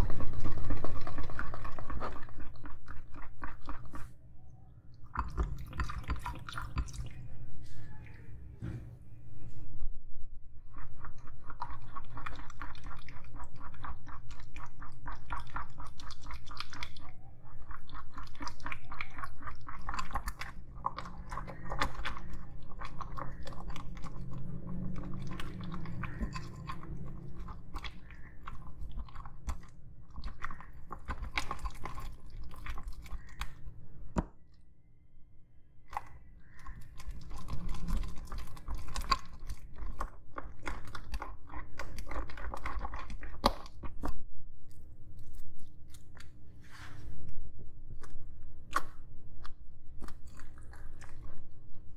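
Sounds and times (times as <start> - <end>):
spoon stirring sticky slime: 0.0 - 8.8, 10.5 - 34.1, 35.9 - 47.2.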